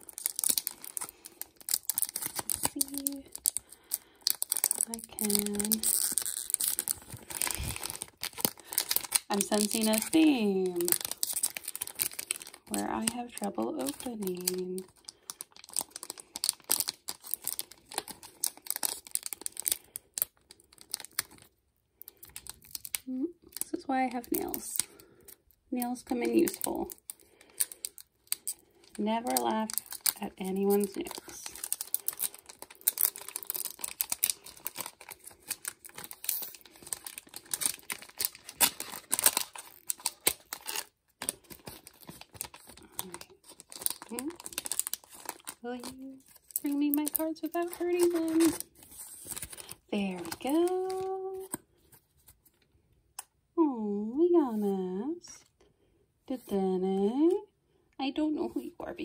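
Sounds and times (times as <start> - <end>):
foil wrapper crinkling: 0.0 - 52.7.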